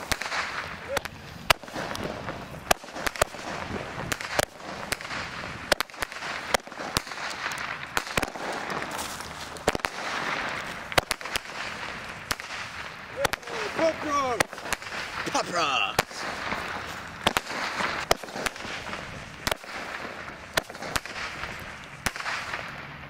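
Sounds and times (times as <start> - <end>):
fireworks cracking and popping: 0.0 - 23.0.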